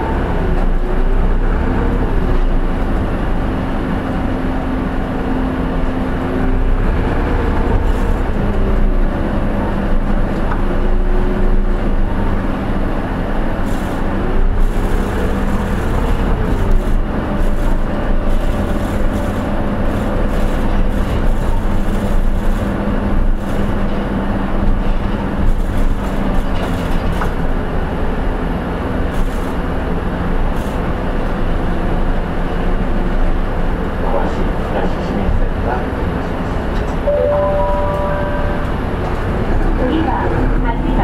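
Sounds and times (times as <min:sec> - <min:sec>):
bus engine hum: 0:00.0 - 0:41.0
road noise: 0:00.0 - 0:41.0.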